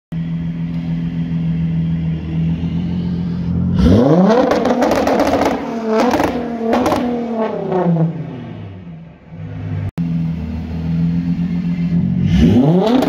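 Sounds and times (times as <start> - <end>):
diesel engine idling and revving: 0.1 - 13.0.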